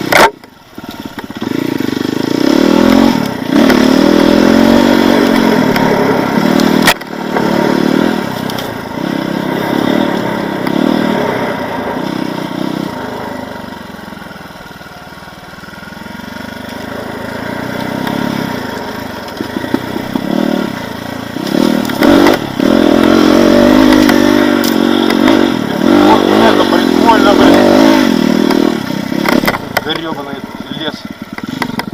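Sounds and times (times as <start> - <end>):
off-road motorcycle engine revving: 0.0 - 31.9.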